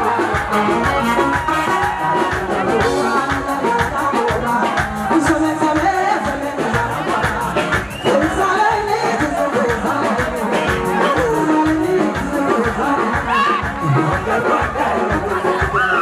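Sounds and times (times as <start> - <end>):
amplified band with steady beat: 0.0 - 16.0
woman singing into microphone: 0.0 - 16.0.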